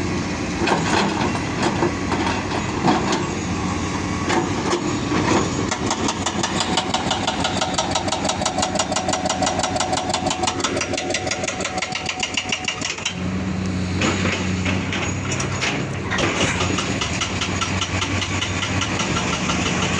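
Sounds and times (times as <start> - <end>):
diesel engine clattering: 0.0 - 19.9.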